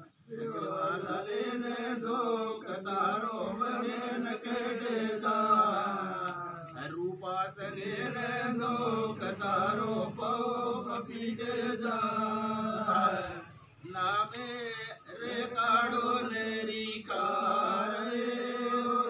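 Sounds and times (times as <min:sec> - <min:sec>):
men chanting a prayer: 0:00.0 - 0:19.0.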